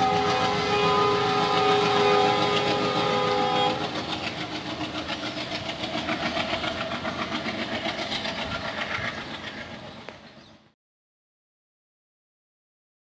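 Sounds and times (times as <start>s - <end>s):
train wheels clattering over rail joints: 0.0s - 10.7s.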